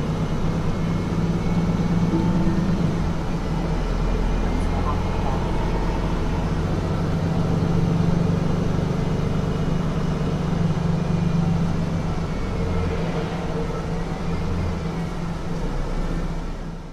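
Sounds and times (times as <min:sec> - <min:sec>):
bus engine humming: 0:00.0 - 0:16.9.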